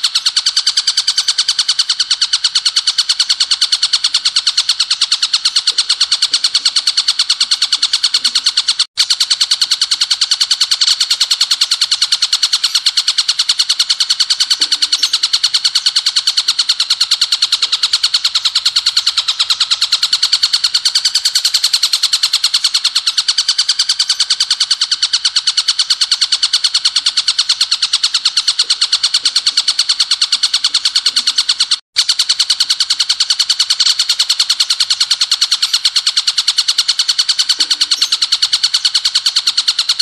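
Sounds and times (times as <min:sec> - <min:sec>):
bird singing rapid high notes: 0:00.0 - 0:08.9, 0:09.8 - 0:31.8, 0:33.8 - 0:40.0.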